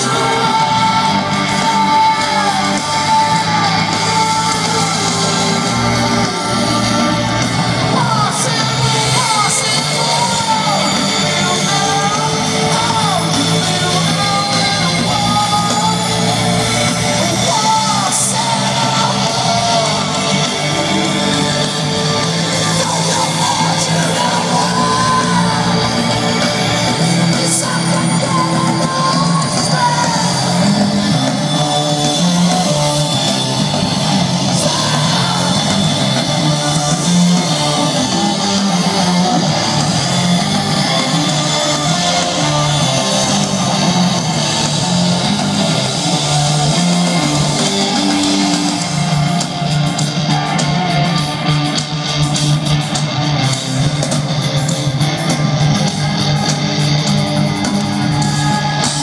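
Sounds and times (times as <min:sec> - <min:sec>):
bass line: 0:00.0 - 0:59.0
electric guitars: 0:00.0 - 0:59.0
person singing: 0:00.0 - 0:59.0
rock band playing live: 0:00.0 - 0:59.0.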